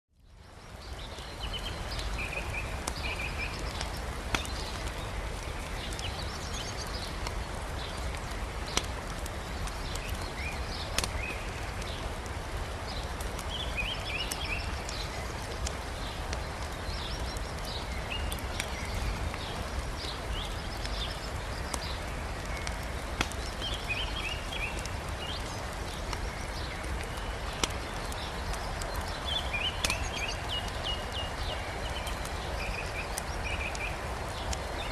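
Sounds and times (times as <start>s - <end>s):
campfire crackling: 0.1s - 34.9s
small birds chirping: 0.1s - 34.9s
river rushing: 0.7s - 34.9s.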